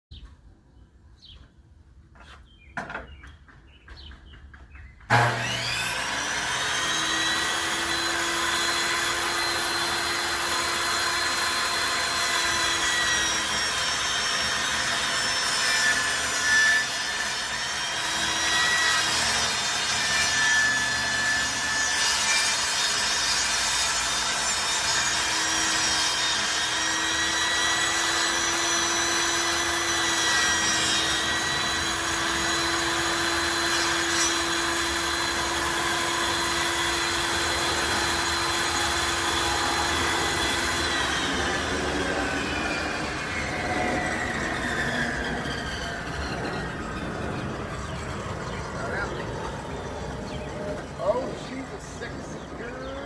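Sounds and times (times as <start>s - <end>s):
power saw cutting wood: 5.1s - 53.0s.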